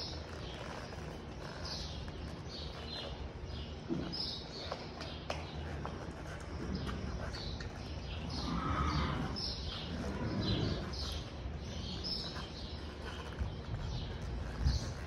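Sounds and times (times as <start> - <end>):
horse hooves thudding in sand: 0.0 - 15.0
small birds chirping: 0.0 - 15.0.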